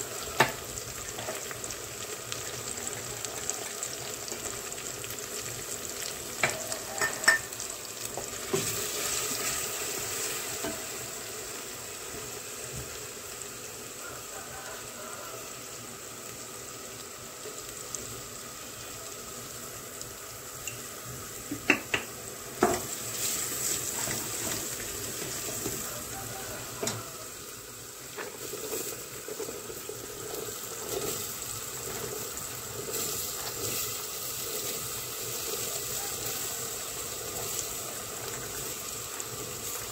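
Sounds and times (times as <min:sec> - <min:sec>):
onion sizzling in oil: 0:00.0 - 0:39.9.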